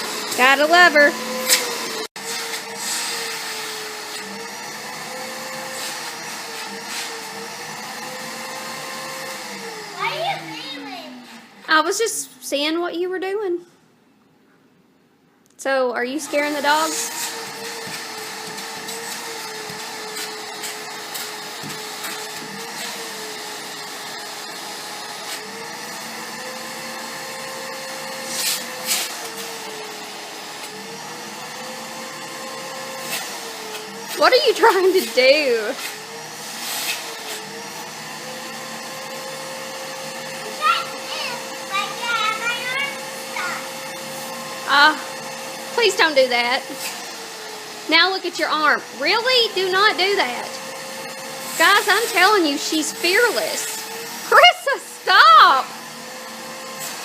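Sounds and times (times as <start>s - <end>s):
vacuum cleaner running: 0.0s - 12.3s, 15.8s - 57.0s.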